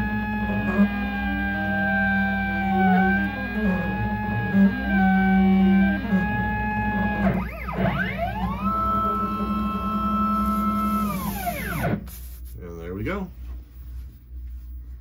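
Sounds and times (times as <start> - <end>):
stepper motors whining: 0.0 - 12.1.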